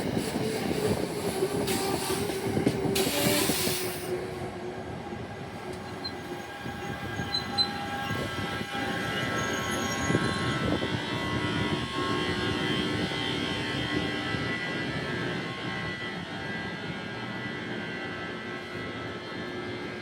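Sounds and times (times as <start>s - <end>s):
held train tones: 0.0s - 20.0s
train rumbling past: 0.0s - 20.0s.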